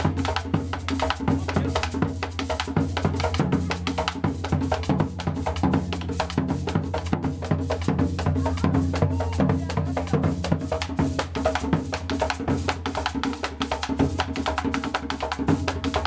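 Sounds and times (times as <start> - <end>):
fast percussion beat: 0.0 - 16.0.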